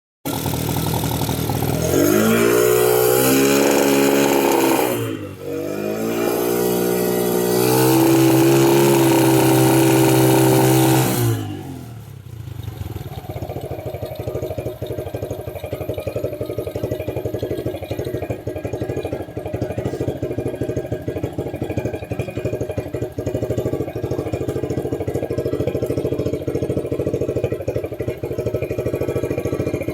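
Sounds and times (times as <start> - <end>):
motorcycle engine revving: 0.3 - 29.9.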